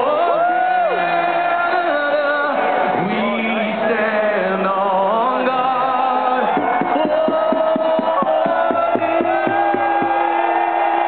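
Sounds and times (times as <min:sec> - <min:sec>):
stadium crowd singing: 0:00.0 - 0:11.0.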